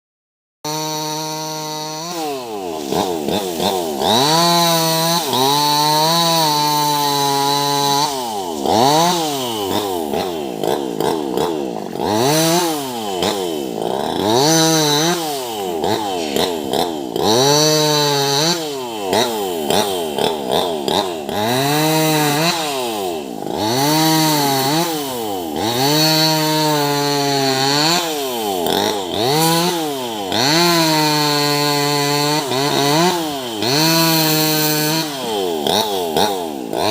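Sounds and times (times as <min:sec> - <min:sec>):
chainsaw cutting branches: 0:00.7 - 0:36.9.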